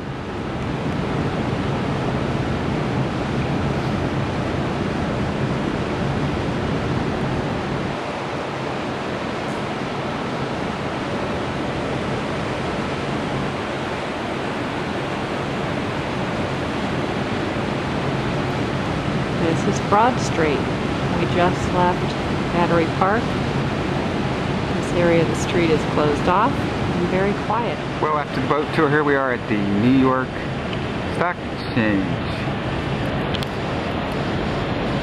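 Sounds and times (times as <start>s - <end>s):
city street roar: 0.0s - 35.0s.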